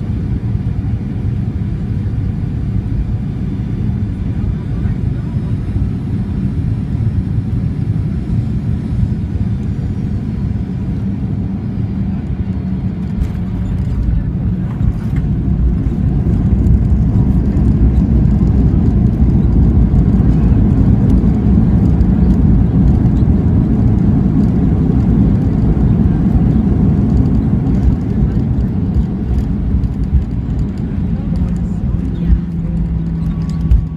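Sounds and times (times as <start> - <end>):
airplane cabin rumble: 0.0 - 33.9
jet engine whine: 0.0 - 33.9.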